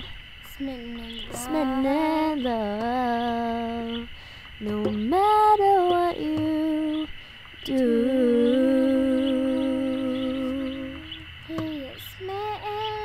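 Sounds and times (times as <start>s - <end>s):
wordless vocal melody: 0.0s - 13.0s.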